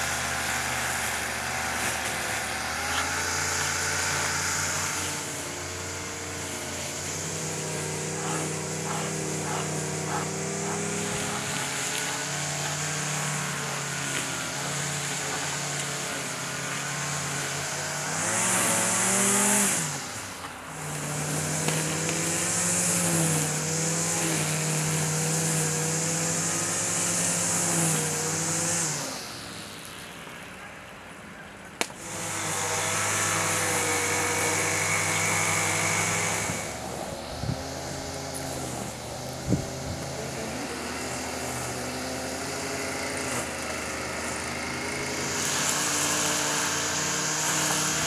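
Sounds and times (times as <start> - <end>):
motor engine running: 0.0 - 48.0.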